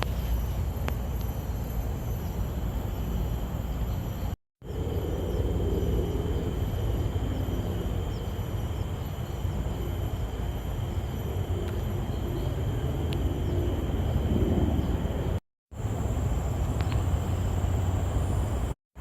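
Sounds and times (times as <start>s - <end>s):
low rumble: 0.0s - 18.8s.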